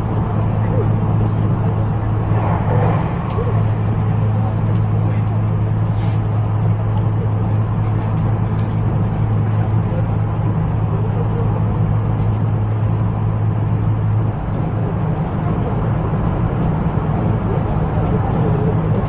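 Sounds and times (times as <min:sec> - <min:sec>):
steady low hum: 0:00.0 - 0:19.0
train wheels rumbling on rail: 0:00.0 - 0:19.0.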